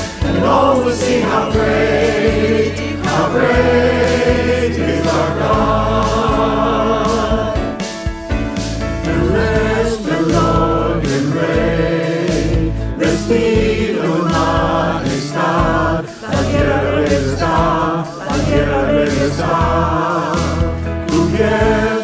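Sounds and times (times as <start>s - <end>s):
choir singing worship song: 0.0s - 22.0s
instrumental accompaniment: 0.0s - 22.0s.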